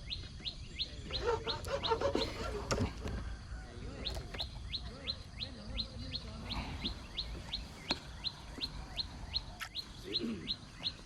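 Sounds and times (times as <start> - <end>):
bird high chirps: 0.0 - 2.7, 3.9 - 11.0.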